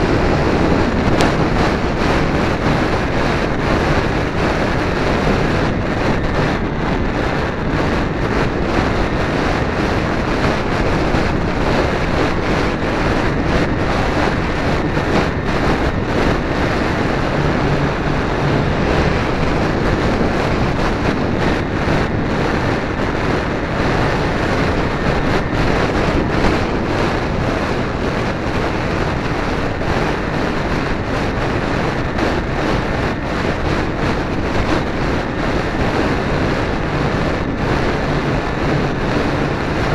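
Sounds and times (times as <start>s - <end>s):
model plane motor and propeller: 0.0s - 39.9s
wind rushing on microphone: 0.0s - 39.9s.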